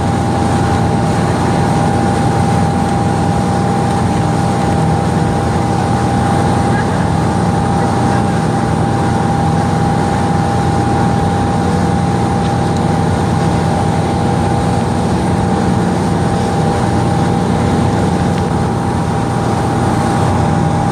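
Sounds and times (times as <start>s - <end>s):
motorboat engine droning: 0.0s - 20.9s
water rushing from wake: 0.0s - 20.9s.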